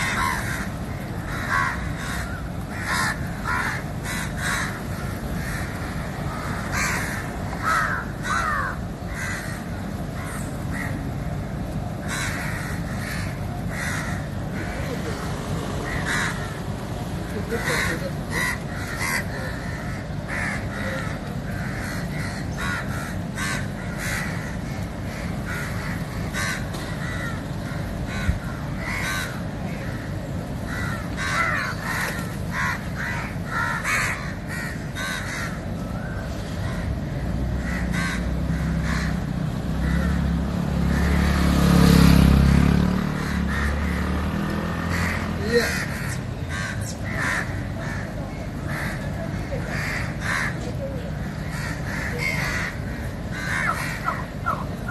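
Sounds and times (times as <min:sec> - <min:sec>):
crows cawing: 0:00.0 - 0:54.9.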